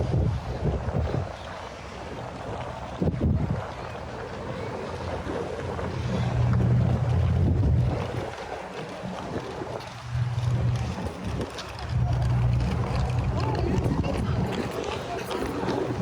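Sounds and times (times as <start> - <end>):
wind gusting on microphone: 0.0 - 16.0.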